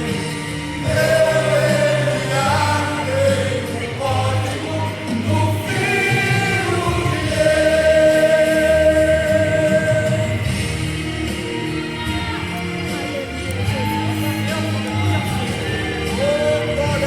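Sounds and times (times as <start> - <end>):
choral singing: 0.0 - 17.0
steady low bass: 0.0 - 17.0.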